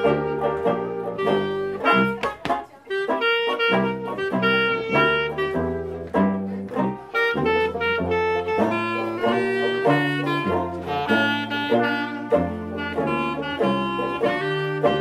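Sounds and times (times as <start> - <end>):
horns and clarinet: 0.0 - 15.0
tuba bass line: 0.0 - 15.0.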